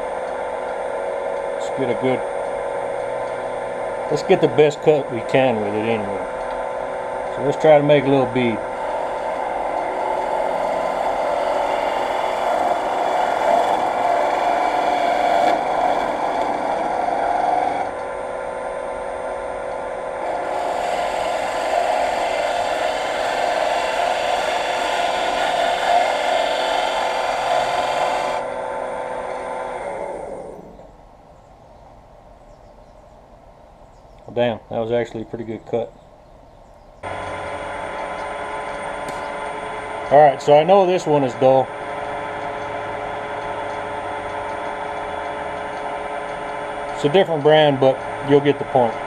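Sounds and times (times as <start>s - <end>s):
gouge scraping spinning wood: 0.0s - 30.9s, 37.0s - 49.0s
wood lathe motor whine: 0.0s - 31.0s, 37.0s - 49.0s.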